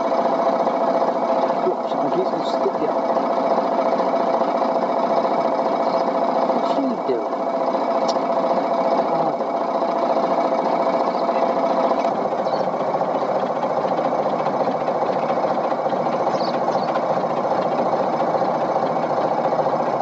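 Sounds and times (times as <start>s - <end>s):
diesel engine clattering: 0.0s - 20.0s.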